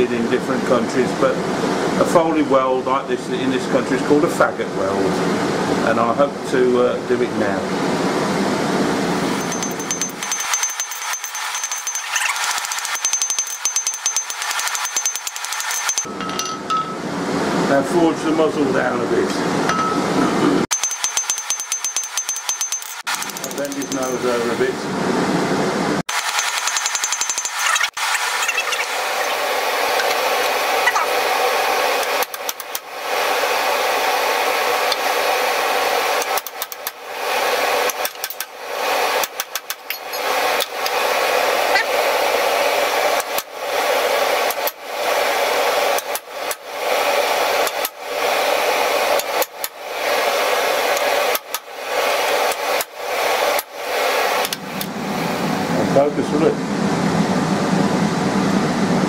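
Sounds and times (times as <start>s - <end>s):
forge blower whooshing hum: 0.0s - 20.7s, 23.0s - 59.0s.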